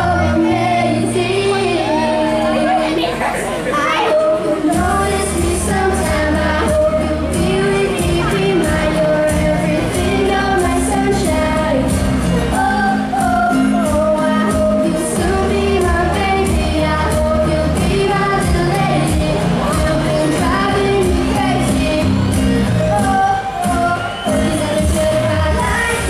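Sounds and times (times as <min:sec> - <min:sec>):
person singing: 0:00.0 - 0:26.0.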